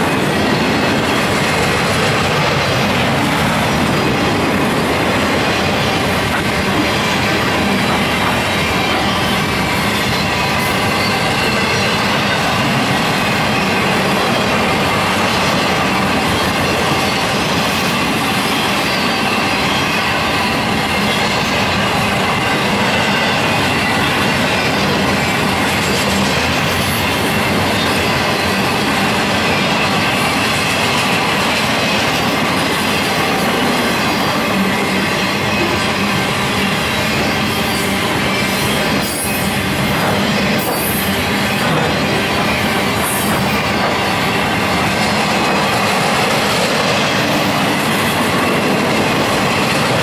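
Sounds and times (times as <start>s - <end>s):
freight train wheels rolling: 0.0s - 50.0s.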